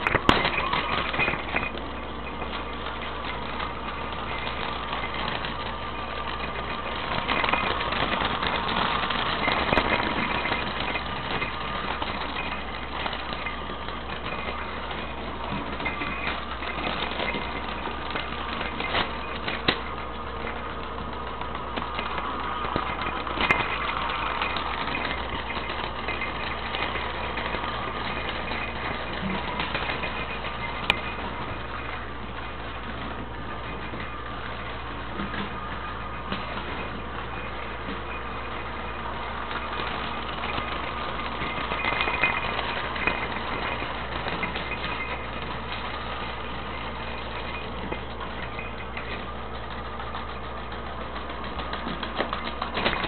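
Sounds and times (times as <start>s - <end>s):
plastic toy track rattling: 0.0s - 53.0s.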